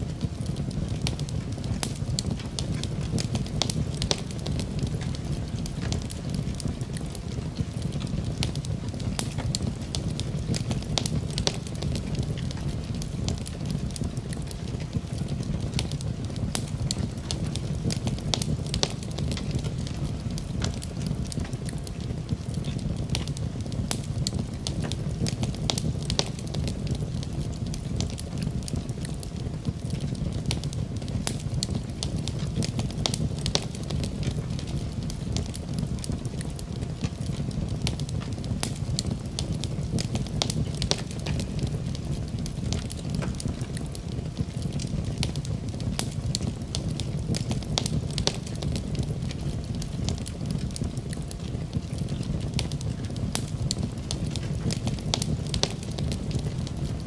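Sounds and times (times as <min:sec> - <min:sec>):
fire popping and snapping: 0:00.0 - 0:57.0
wood fire crackling: 0:00.0 - 0:57.0.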